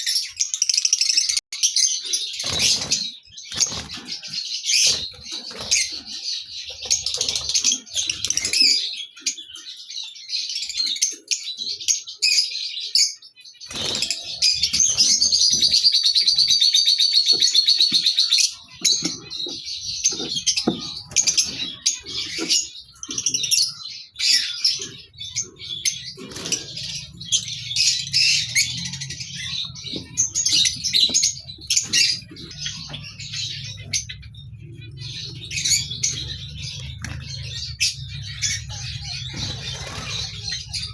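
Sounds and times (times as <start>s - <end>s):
lovebirds chattering and chirping: 0.0s - 40.9s.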